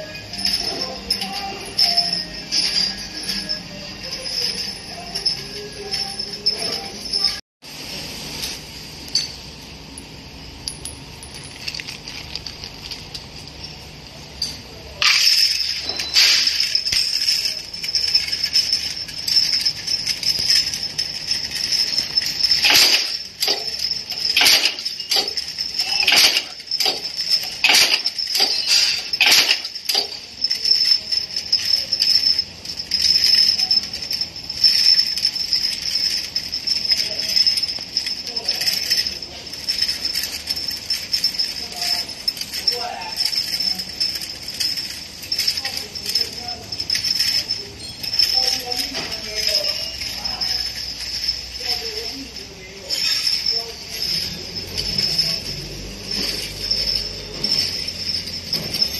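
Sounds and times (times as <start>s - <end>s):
rivets jingling in a feeder: 0.0s - 7.4s, 11.0s - 58.9s.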